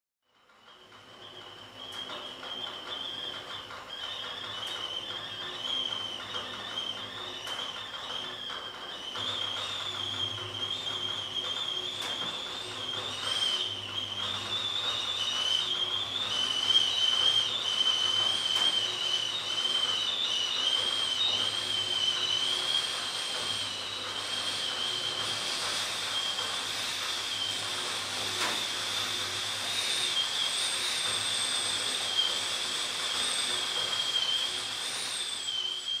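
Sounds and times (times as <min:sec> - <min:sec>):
kettle whistling: 0:00.4 - 0:36.0
steam hissing: 0:01.3 - 0:36.0.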